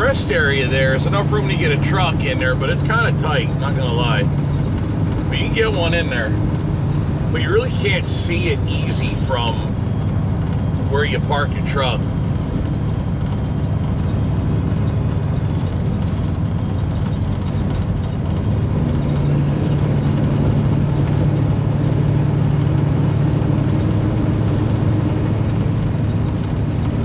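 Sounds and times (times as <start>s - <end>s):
road noise: 0.0s - 27.0s
truck engine running: 0.0s - 27.0s.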